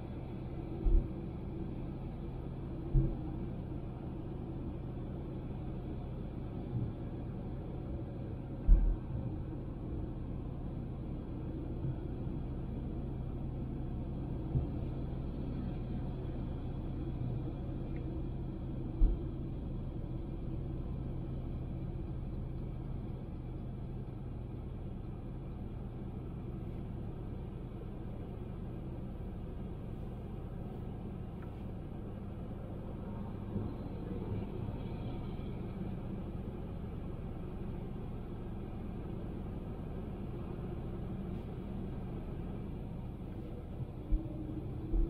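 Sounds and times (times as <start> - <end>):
car road and engine rumble: 0.0 - 45.0.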